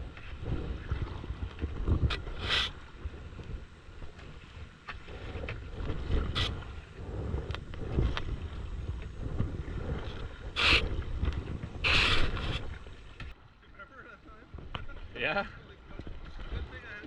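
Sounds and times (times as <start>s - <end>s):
wind rumbling on microphone: 0.0s - 13.4s, 14.3s - 17.0s
paddles splashing in water: 0.0s - 17.0s.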